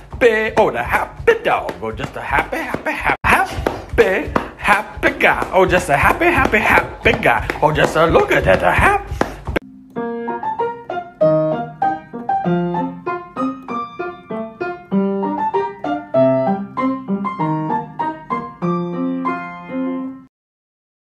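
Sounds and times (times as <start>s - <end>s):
piano tune of single notes: 0.0s - 20.3s.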